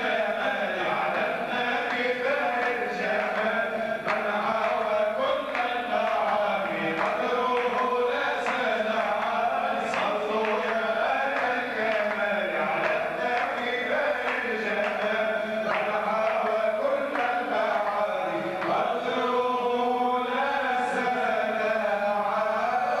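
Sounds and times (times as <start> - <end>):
hand claps: 0.0 - 23.0
men chanting in unison: 0.0 - 23.0.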